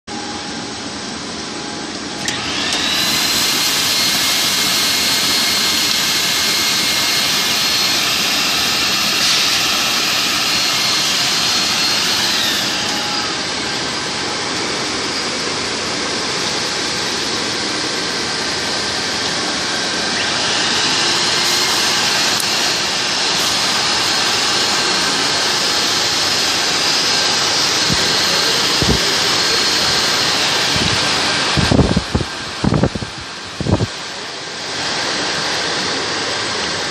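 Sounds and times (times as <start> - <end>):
extrusion machine rushing: 0.1 - 36.9
high two-tone whine: 0.1 - 36.9.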